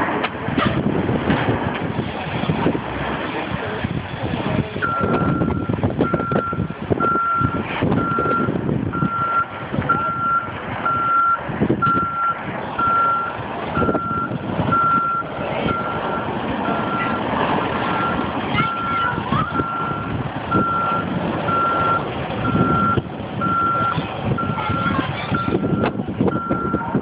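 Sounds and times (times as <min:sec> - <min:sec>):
heavy truck rumbling: 0:00.0 - 0:27.0
truck reversing alarm beeping: 0:04.8 - 0:27.0.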